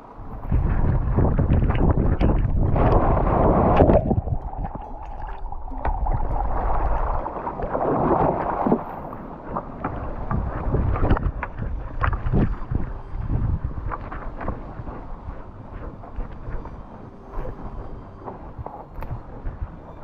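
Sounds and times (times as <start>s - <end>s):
microphone movement rumble: 0.0s - 20.0s
water splashing: 0.2s - 19.7s.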